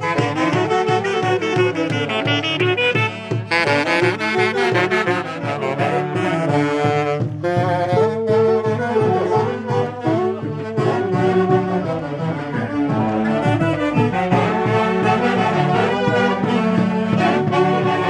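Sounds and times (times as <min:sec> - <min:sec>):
brass band playing a street march: 0:00.0 - 0:18.0
steady drumbeat: 0:00.0 - 0:18.0.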